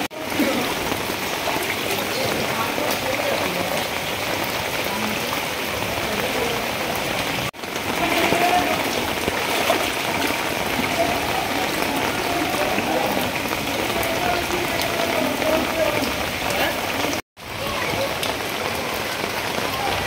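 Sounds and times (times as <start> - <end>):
rain falling on floodwater: 0.0 - 20.0.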